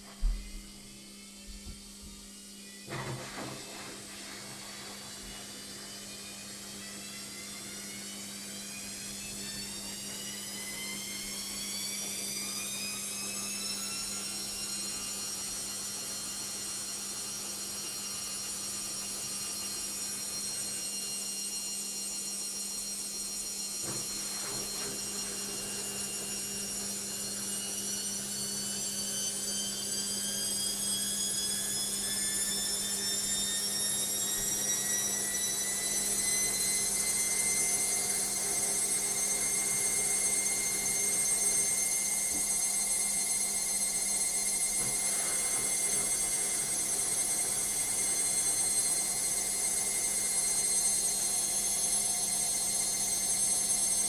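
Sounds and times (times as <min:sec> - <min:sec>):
washing machine motor whining: 0:00.0 - 0:54.0.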